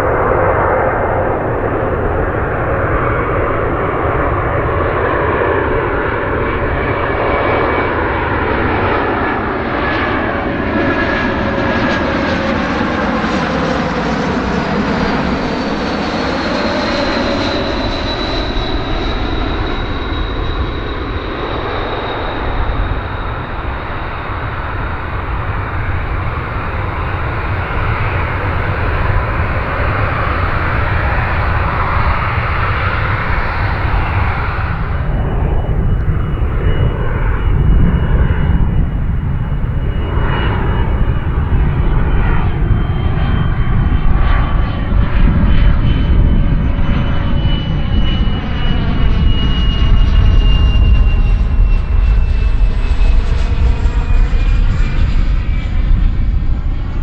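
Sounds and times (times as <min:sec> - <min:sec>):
high jet whine dropping in pitch: 0:00.0 - 0:52.8
airliner engine noise: 0:00.0 - 0:57.0.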